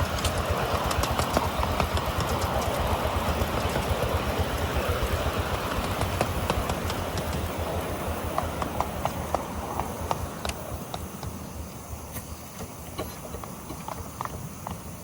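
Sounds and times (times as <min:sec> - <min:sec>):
miniature train wheels clicking: 0:00.0 - 0:15.0
train low rumble: 0:00.0 - 0:15.0.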